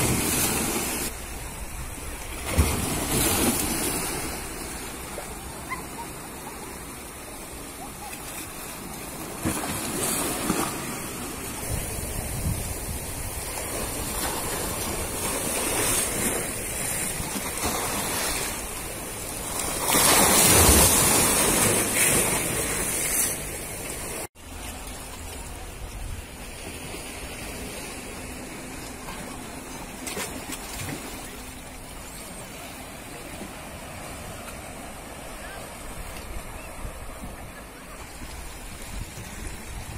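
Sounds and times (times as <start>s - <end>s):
waves splashing against boulders: 0.0s - 39.9s.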